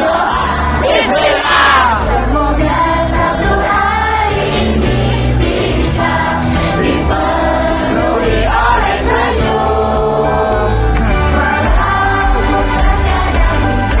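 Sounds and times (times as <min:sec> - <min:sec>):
pop backing track with heavy bass: 0:00.0 - 0:14.0
women singing together: 0:00.0 - 0:14.0.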